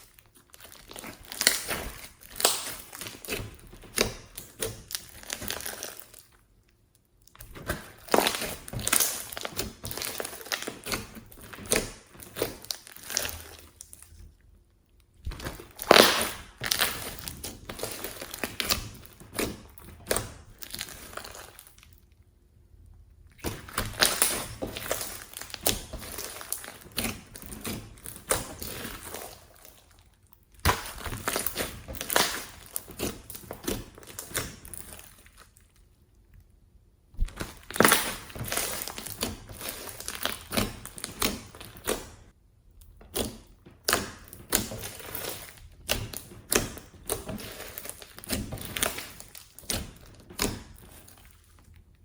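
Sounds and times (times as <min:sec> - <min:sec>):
slime squished by hand: 0:00.0 - 0:14.3, 0:15.0 - 0:21.9, 0:23.3 - 0:35.9, 0:37.1 - 0:42.4, 0:43.0 - 0:51.8.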